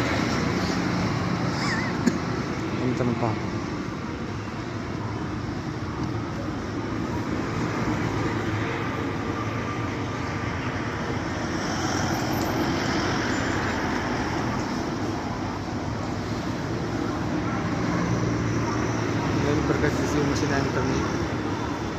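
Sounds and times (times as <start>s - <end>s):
road and traffic noise: 0.0s - 21.9s.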